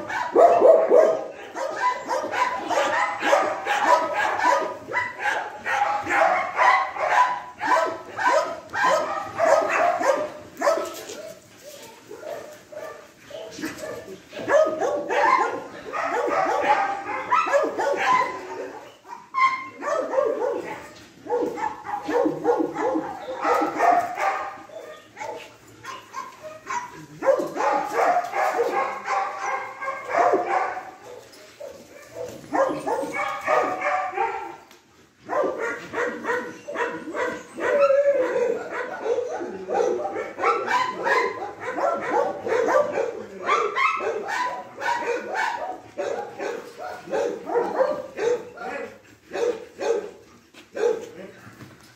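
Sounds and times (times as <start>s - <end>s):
dogs barking and whining: 0.0s - 51.7s.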